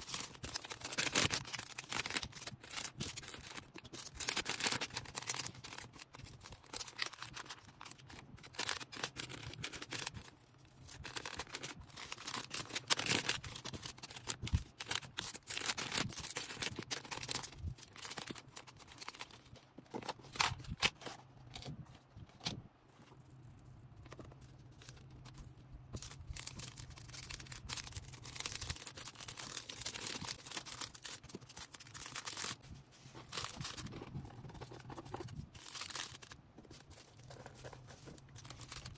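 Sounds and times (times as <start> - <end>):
packaging rustling and tearing: 0.0 - 22.6, 24.1 - 38.9.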